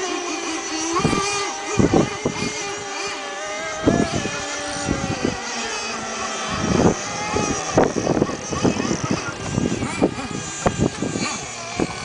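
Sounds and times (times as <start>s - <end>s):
racing boat engines whining: 0.0s - 12.0s.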